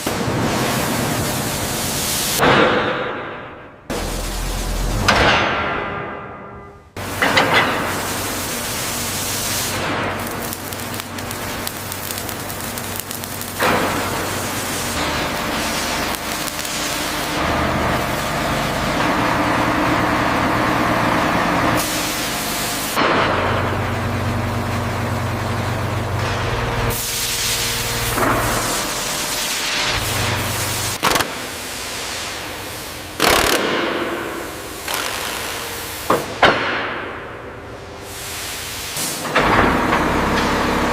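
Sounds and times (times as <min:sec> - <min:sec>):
factory machinery hissing rush: 0:00.0 - 0:03.3, 0:03.9 - 0:05.6, 0:07.0 - 0:40.9.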